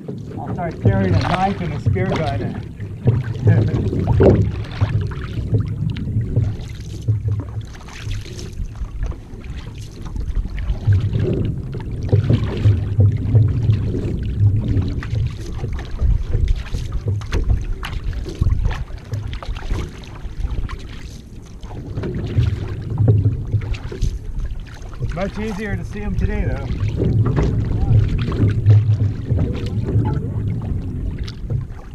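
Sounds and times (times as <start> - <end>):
paddle splashing in water: 0.0 - 31.9
water running along hull: 0.0 - 31.9
wind rumble on microphone: 0.0 - 31.9.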